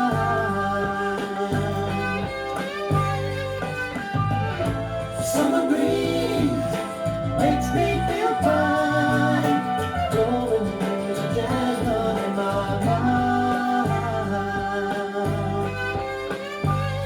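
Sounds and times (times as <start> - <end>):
soft rock music with singing: 0.0 - 17.0.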